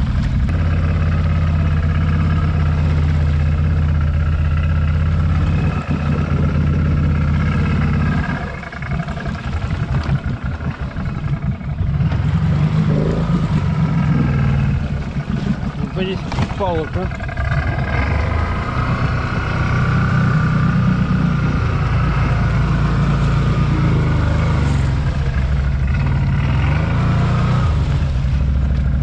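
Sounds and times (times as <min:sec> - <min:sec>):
quad bike engine revving: 0:00.0 - 0:29.0.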